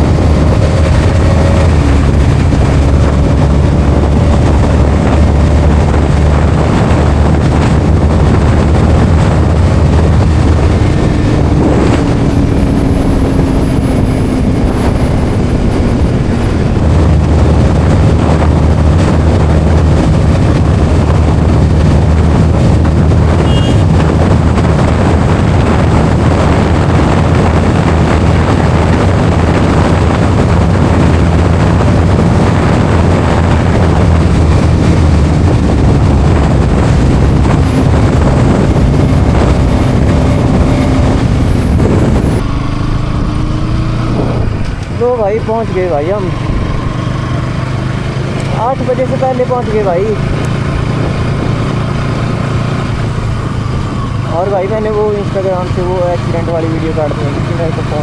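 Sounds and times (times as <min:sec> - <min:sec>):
motorcycle engine drone: 0:00.0 - 0:58.0
wind rushing over microphone: 0:00.0 - 0:58.0.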